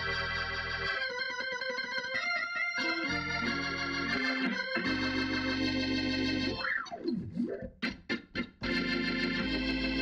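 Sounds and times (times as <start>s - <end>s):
organ chords: 0.0s - 10.0s.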